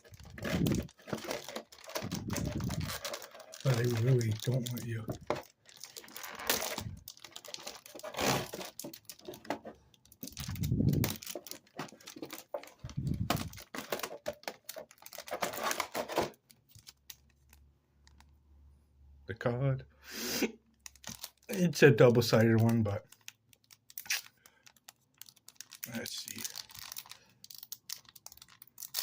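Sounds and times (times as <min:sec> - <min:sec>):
packaging rustling and crinkling: 0:00.0 - 0:18.2, 0:20.8 - 0:29.0.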